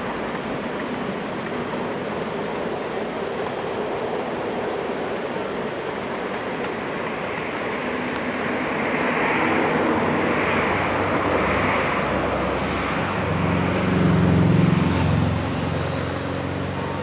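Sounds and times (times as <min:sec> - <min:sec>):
electric train rushing rumble: 0:00.0 - 0:17.0.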